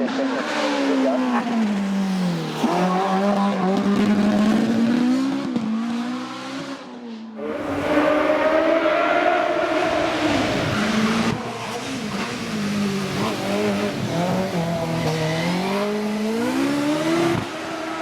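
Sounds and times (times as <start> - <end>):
racing car accelerating hard: 0.0 - 18.0.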